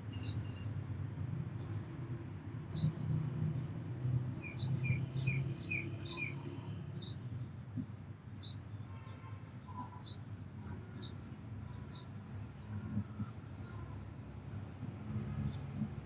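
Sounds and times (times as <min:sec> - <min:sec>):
small birds chirping: 0:02.7 - 0:16.0.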